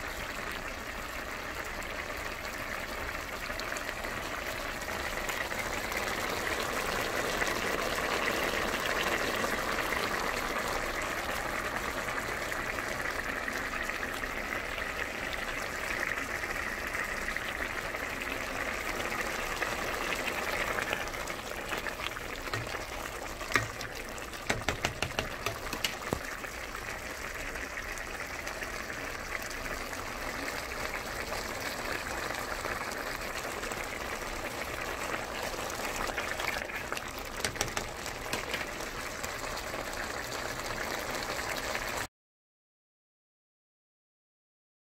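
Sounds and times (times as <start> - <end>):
pot boiling: 0.0 - 42.1.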